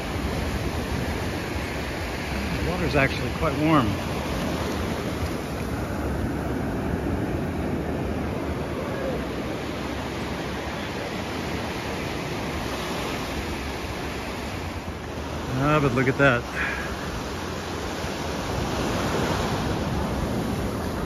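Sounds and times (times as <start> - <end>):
waves breaking on shore: 0.0 - 21.0.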